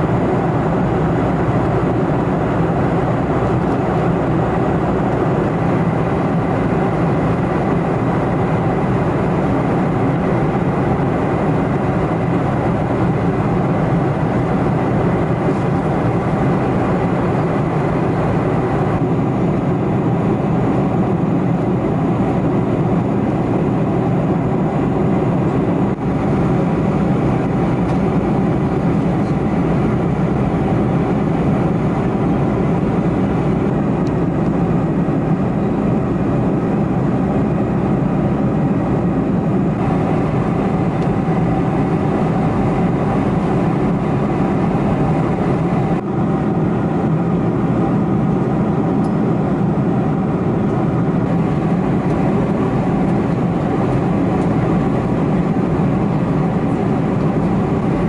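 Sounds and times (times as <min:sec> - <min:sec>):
faint steady whine: 0:00.0 - 0:58.0
jet engines roaring in cabin: 0:00.0 - 0:58.0
rushing airflow: 0:00.0 - 0:58.0.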